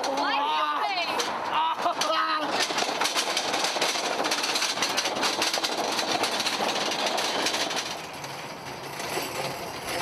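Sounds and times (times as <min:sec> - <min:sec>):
equipment rattling across asphalt: 0:00.0 - 0:10.0.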